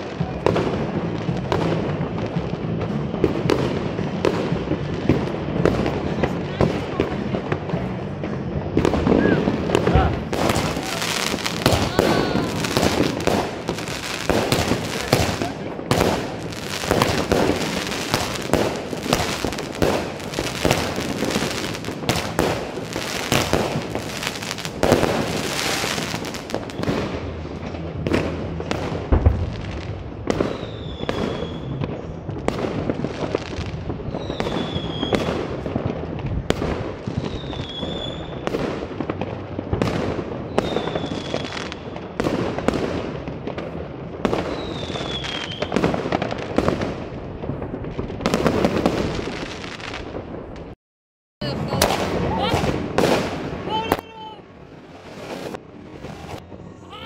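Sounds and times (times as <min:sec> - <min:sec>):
fireworks bangs and crackling: 0:00.0 - 0:50.8, 0:51.4 - 0:57.0.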